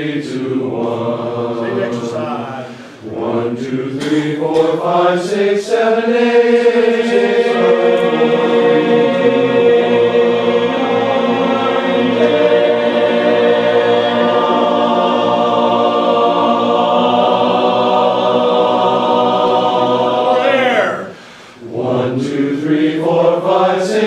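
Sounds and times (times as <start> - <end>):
choir singing held notes: 0.0 - 24.0.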